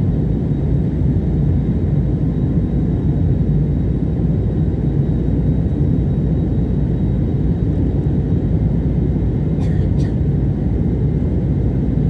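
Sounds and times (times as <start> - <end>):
jet engine drone in cabin: 0.0 - 12.0.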